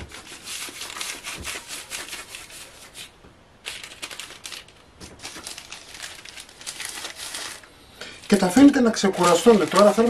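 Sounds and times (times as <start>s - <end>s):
baking paper rustling: 0.0s - 10.0s.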